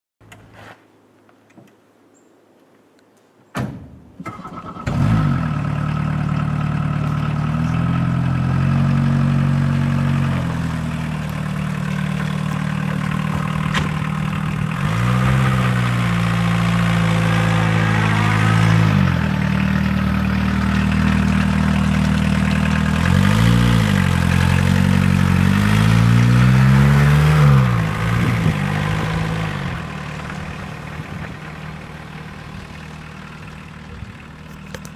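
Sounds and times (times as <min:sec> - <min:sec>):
diesel engine starting and revving: 0:04.2 - 0:34.9.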